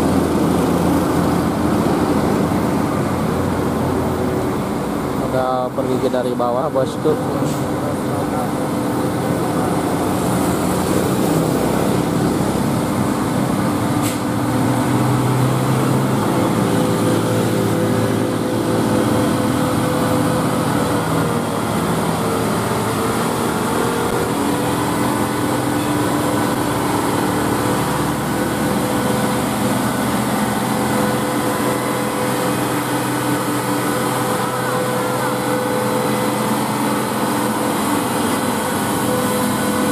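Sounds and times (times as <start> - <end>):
truck diesel engine climbing hill: 0.0 - 39.9.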